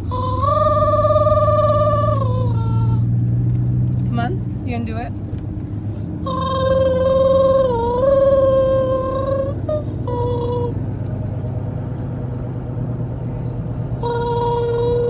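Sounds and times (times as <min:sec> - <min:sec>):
car rumbling on road: 0:00.0 - 0:15.0.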